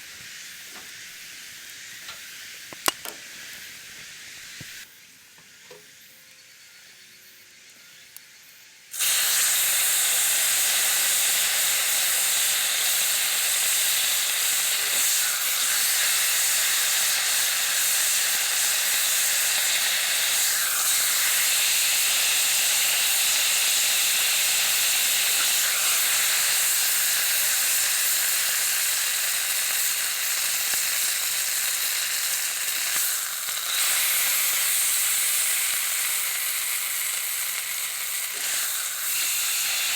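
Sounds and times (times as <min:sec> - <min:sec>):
beef sizzling in a pot: 0:00.0 - 0:39.9
faint hiss: 0:00.0 - 0:39.9.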